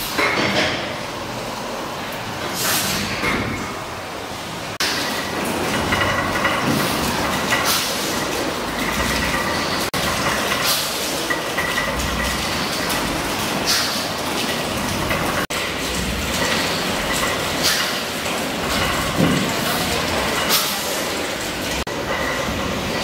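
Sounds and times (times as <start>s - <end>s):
steam engine clatter and hiss: 0.0s - 1.0s, 2.4s - 3.9s, 4.7s - 23.0s.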